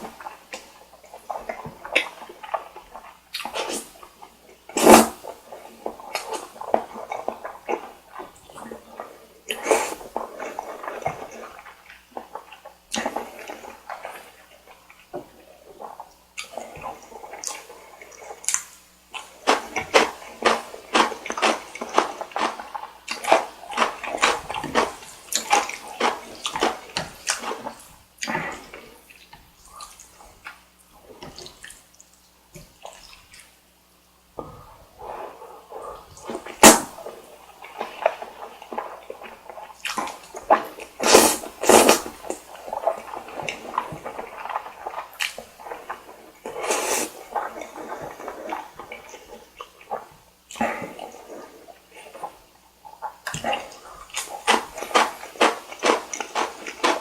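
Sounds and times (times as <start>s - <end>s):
noodle slurping: 0.0s - 31.7s, 34.4s - 57.0s
wet chewing and smacking: 5.8s - 30.6s, 34.4s - 51.5s, 52.1s - 57.0s.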